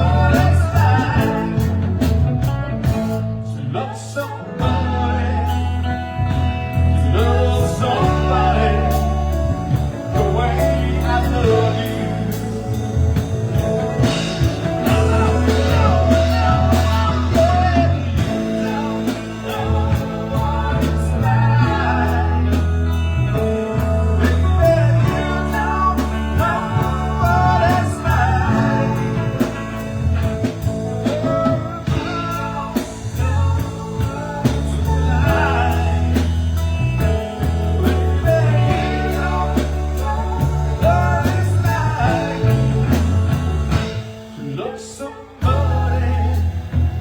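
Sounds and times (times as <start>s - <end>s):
live band music: 0.0s - 47.0s.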